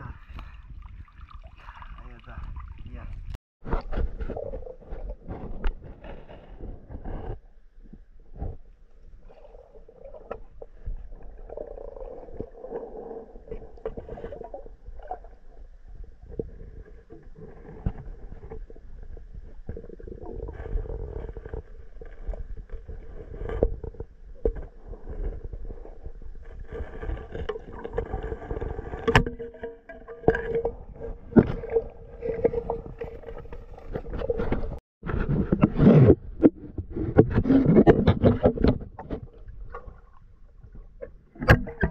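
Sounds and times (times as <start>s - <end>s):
underwater rumble of moving water: 0.0s - 35.6s
underwater knocks and clicks: 2.4s - 41.9s.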